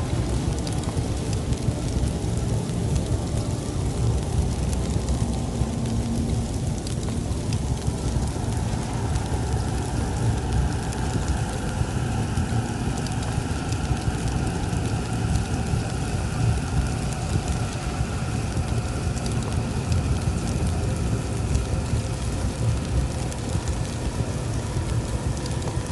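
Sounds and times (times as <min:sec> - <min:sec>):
low rumble: 0:00.0 - 0:25.9.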